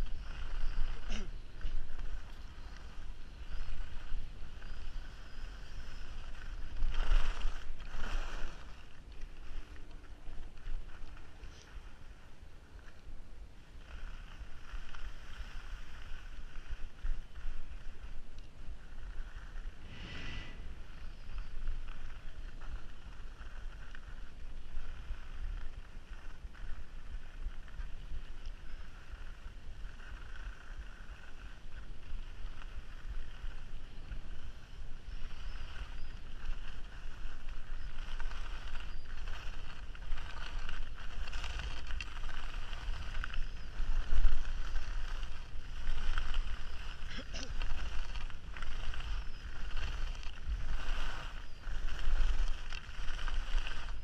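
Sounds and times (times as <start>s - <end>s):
skis scraping over snow: 0.0s - 54.0s
wind buffeting microphone: 0.0s - 54.0s.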